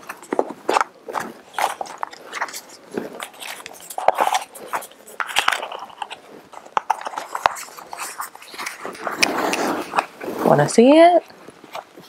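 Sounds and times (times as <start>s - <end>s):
paper crinkling and rustling: 0.0s - 10.6s.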